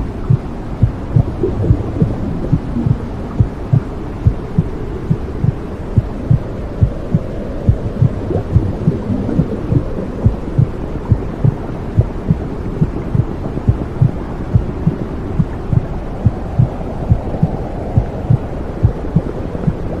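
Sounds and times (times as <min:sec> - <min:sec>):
low whooshing noise: 0:00.0 - 0:20.0
heartbeat thumping: 0:00.2 - 0:19.8.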